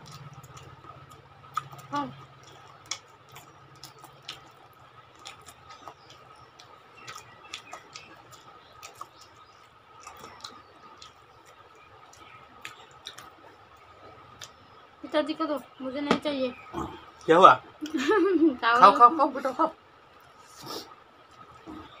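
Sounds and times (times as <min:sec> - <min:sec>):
people eating and chewing: 0:00.0 - 0:15.2, 0:16.6 - 0:18.2, 0:20.1 - 0:22.0
faint steady hum: 0:00.0 - 0:22.0.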